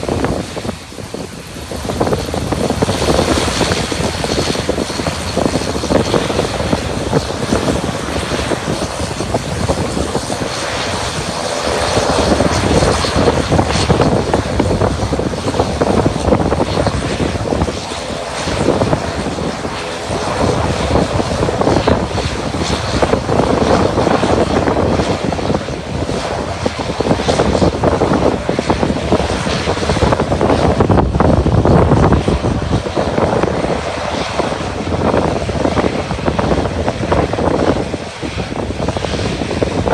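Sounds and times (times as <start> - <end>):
aircraft engine running: 0.0 - 39.9
wind rumbling on microphone: 0.0 - 39.9.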